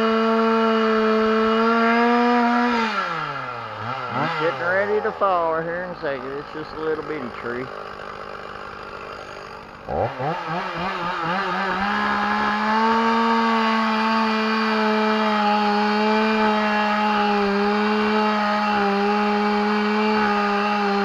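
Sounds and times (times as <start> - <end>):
chainsaw cutting tree trunk: 0.0 - 21.0.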